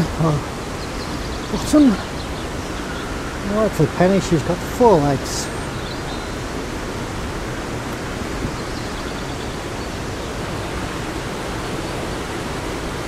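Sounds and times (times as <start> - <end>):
river and waterfall rushing: 0.0 - 13.0.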